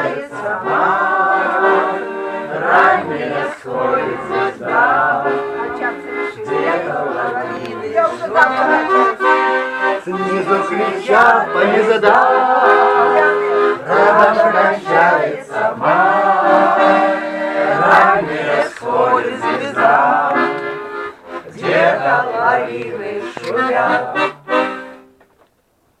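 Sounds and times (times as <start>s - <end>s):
group singing in unison: 0.0s - 24.6s
accordion chords: 0.0s - 25.3s.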